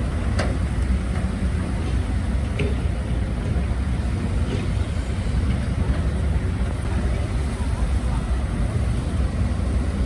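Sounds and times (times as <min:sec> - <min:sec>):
diesel construction machinery rumbling: 0:00.0 - 0:10.0.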